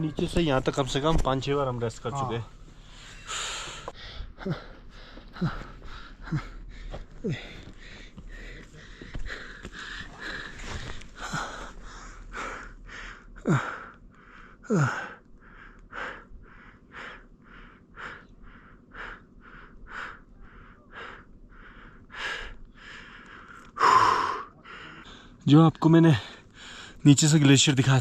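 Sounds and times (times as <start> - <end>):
person panting hard: 2.8 - 25.4.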